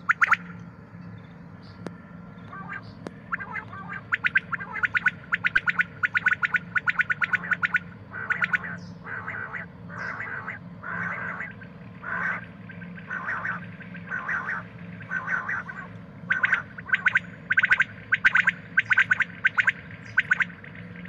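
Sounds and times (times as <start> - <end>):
quail calling: 0.0 - 0.6, 2.4 - 20.7
faint steady low hum: 0.0 - 21.0.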